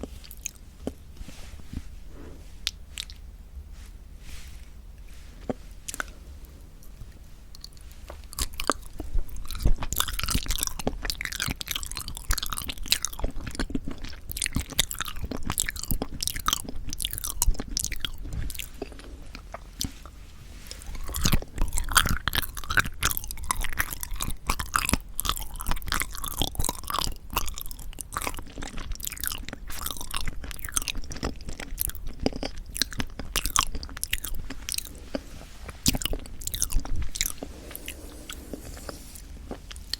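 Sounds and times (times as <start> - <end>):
close chewing with wet mouth sounds: 0.0 - 1.2, 2.6 - 3.2, 6.8 - 39.9.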